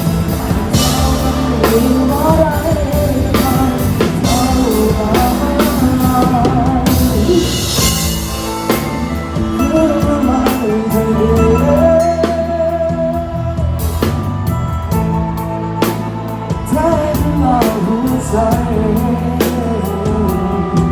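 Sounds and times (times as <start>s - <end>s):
drum kit: 0.0s - 20.9s
guitar: 0.0s - 20.9s
person singing: 0.0s - 20.9s.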